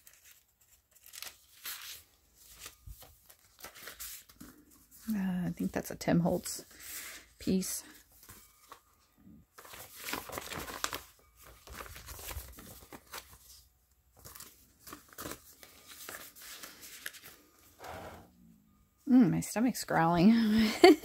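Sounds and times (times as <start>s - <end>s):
paper rustling and crinkling: 0.0s - 5.8s, 6.6s - 17.8s.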